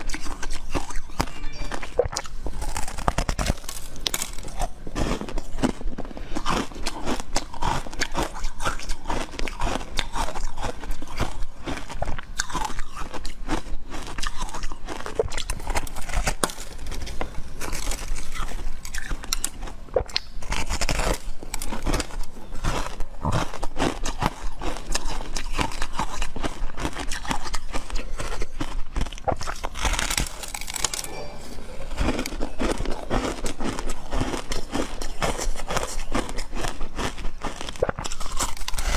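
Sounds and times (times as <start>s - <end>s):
crunchy bites and chewing: 0.0s - 38.9s.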